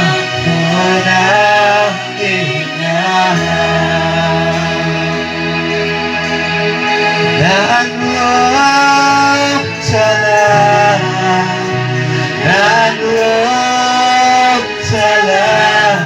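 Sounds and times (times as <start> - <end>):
man singing: 0.0 - 6.1, 7.2 - 16.0
instrumental accompaniment with bass: 0.0 - 16.0.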